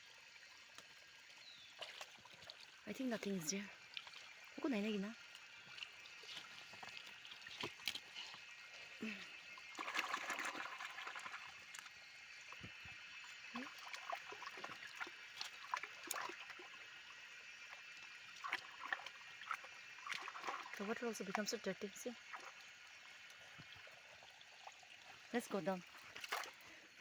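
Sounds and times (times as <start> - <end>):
stream water trickling: 0.0 - 27.0
small splashes and knocks: 0.6 - 27.0.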